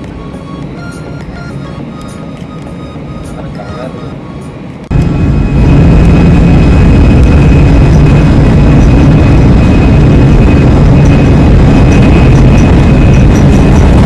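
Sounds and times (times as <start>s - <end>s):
high engine whine: 0.0s - 14.0s
jet engines rumbling in cabin: 0.0s - 14.0s.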